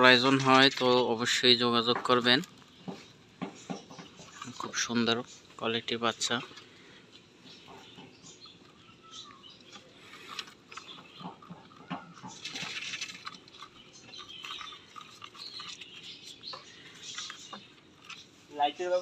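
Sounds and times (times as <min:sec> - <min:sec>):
rabbits scratching and rustling: 0:00.0 - 0:19.0.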